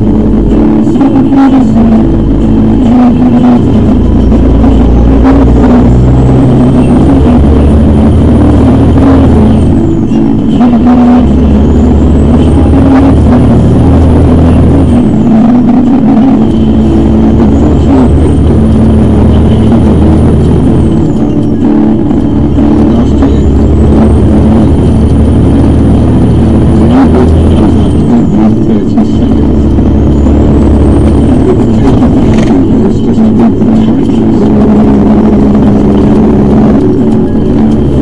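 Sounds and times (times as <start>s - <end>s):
high gear whine: 0.0s - 38.0s
truck engine running loud: 0.0s - 38.0s.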